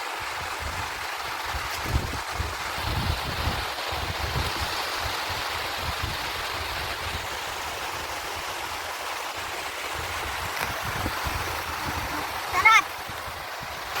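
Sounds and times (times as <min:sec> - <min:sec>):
sea surf washing on beach: 0:00.0 - 0:14.0
wind buffeting microphone: 0:00.3 - 0:07.6, 0:09.9 - 0:14.0.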